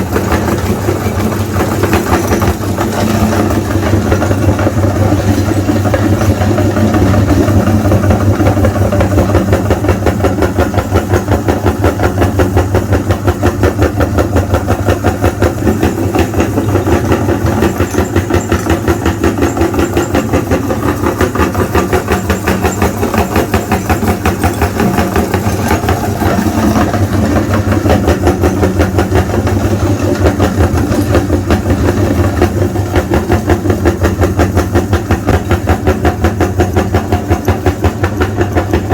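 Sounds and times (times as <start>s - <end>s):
meat grinder motor grinding: 0.0s - 38.9s.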